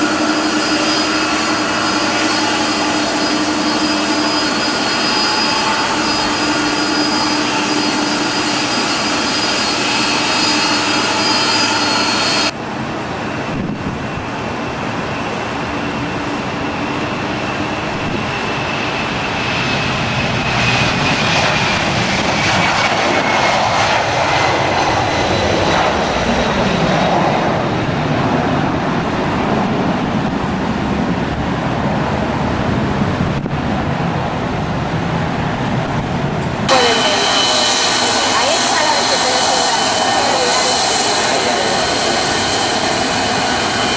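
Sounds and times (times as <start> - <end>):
aircraft engines whining: 0.0 - 43.9.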